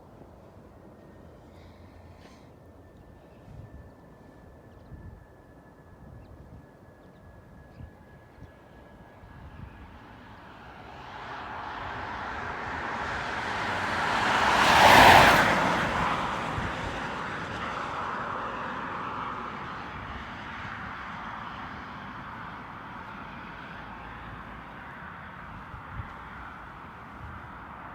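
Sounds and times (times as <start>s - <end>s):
jet airliner passing: 0.2s - 27.9s.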